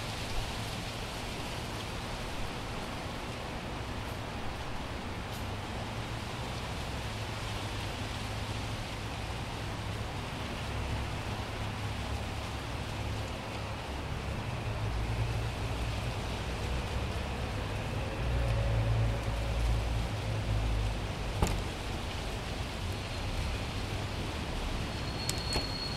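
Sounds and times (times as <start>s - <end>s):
engine and tyre rumble: 0.0s - 25.9s.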